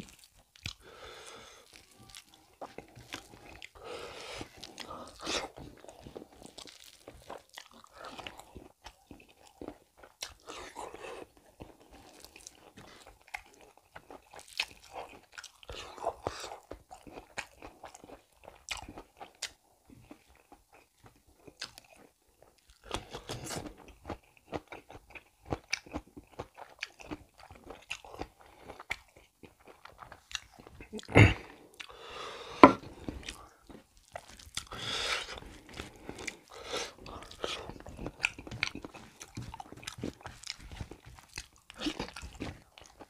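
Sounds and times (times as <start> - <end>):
wet chewing and mouth clicks: 0.0 - 32.0, 32.6 - 43.0.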